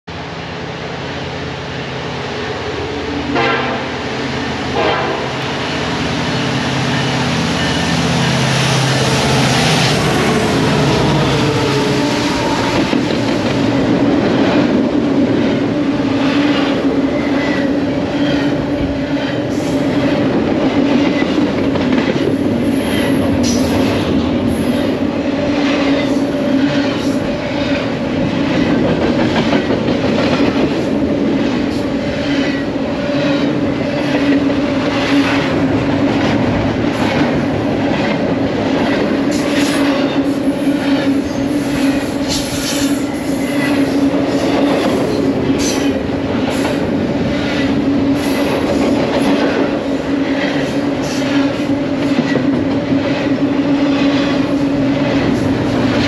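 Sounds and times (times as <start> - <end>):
diesel locomotive engines: 0.0 - 56.0
train wheels rumbling and clacking: 2.4 - 56.0.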